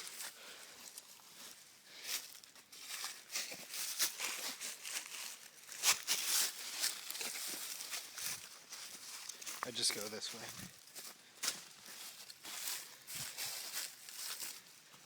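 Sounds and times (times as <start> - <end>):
footsteps crunching in dry leaves: 0.0 - 15.0.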